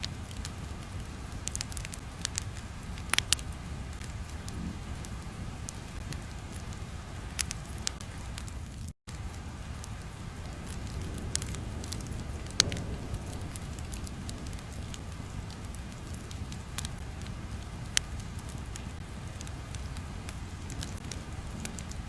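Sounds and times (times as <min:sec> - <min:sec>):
fire crackling and popping: 0:00.0 - 0:22.0
low steady rumble: 0:00.0 - 0:22.0.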